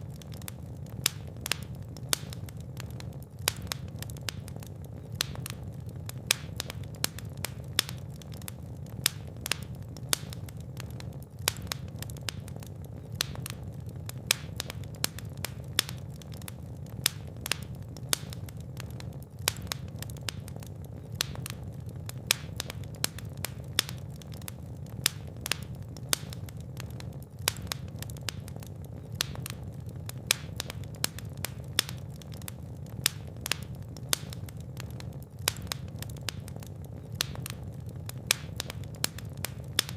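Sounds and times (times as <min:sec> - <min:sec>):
fire burning in fireplace: 0:00.0 - 0:39.9
fire crackling and popping: 0:00.0 - 0:39.9.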